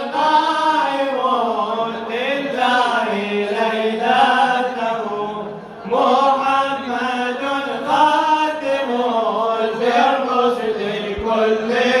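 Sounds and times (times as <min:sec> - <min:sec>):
men chanting unaccompanied: 0:00.0 - 0:12.0.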